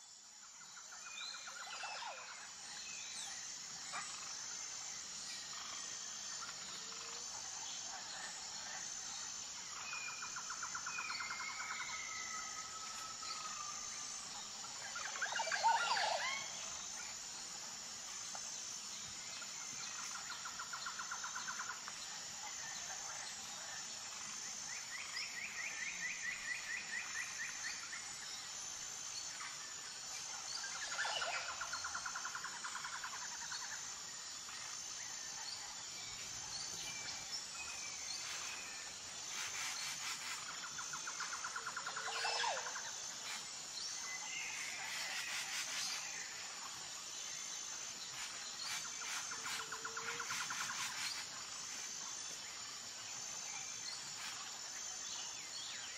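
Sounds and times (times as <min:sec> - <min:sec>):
insect drone: 0:00.0 - 0:55.9.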